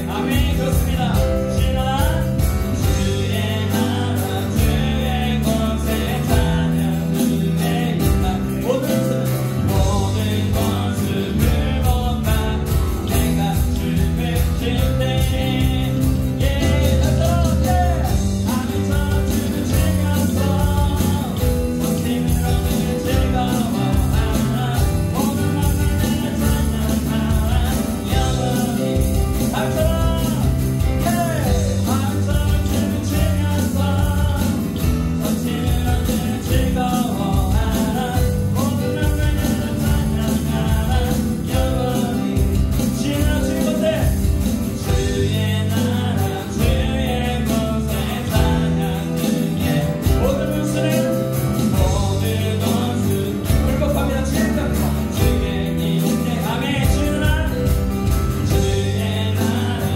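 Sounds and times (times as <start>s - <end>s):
band playing praise song: 0.0s - 59.9s
person singing: 0.0s - 59.9s.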